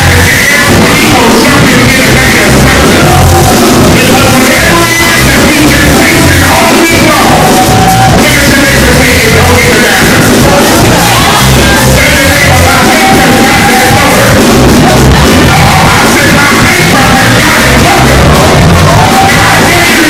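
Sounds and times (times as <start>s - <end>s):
drum kit: 0.0s - 20.0s
keyboard: 0.0s - 20.0s
man singing into a microphone: 0.0s - 20.0s.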